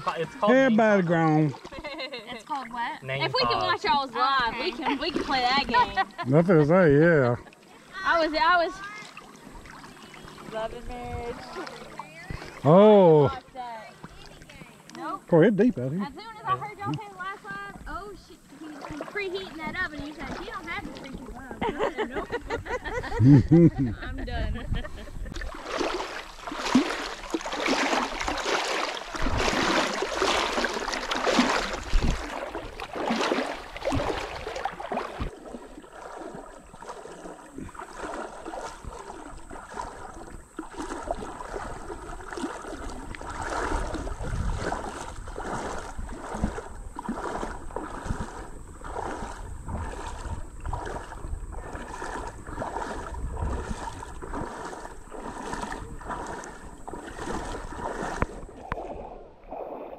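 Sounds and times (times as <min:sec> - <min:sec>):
water splashing and rushing: 0:00.0 - 0:24.0, 0:25.1 - 0:59.9.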